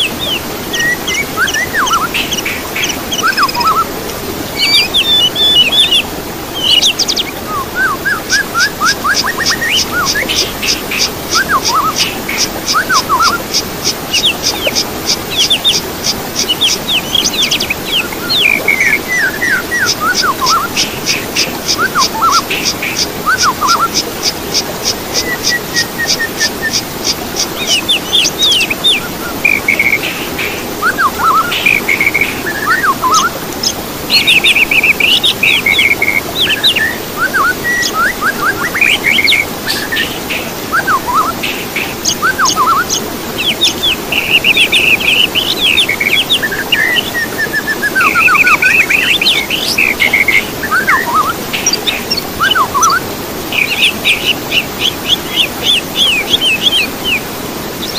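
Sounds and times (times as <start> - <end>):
songbirds singing and chirping: 0.0 - 57.9.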